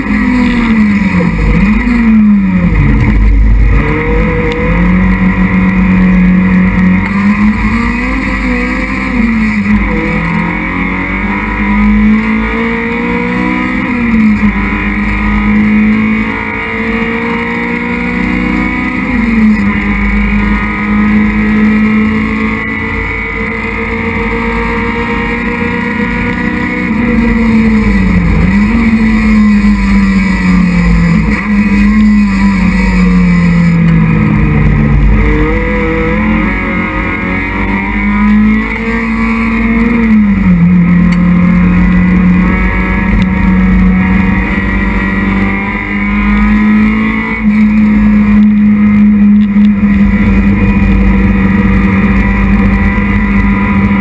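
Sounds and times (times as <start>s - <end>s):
race car engine at high revs: 0.0s - 54.0s
road and wind noise: 0.0s - 54.0s.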